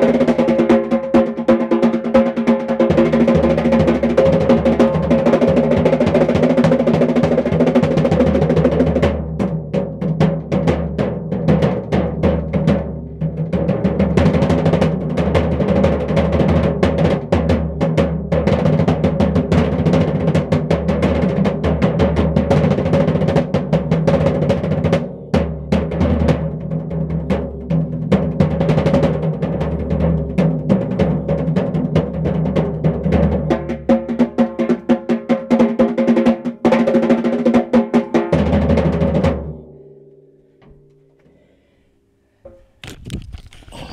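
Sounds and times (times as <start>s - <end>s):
hand drum roll on snare and tom: 0.0s - 39.6s.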